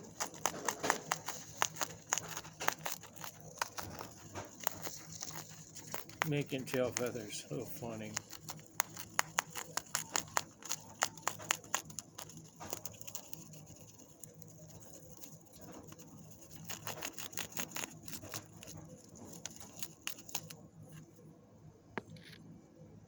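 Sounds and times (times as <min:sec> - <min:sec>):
baby bird preening clicks and rustling: 0:00.0 - 0:21.2.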